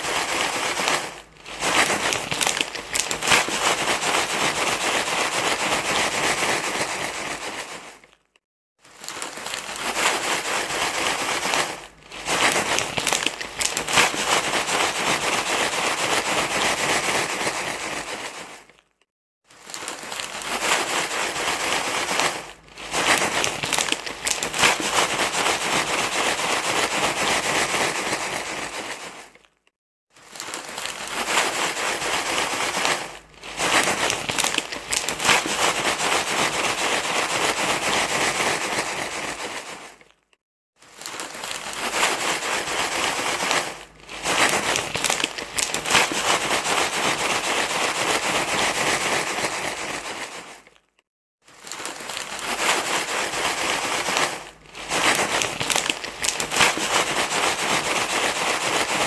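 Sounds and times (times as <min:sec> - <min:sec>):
loud dense crinkling rustle: 0:00.0 - 0:59.0.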